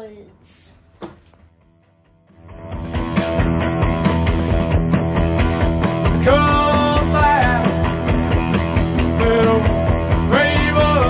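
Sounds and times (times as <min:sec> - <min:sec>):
rock music: 0:01.6 - 0:11.0.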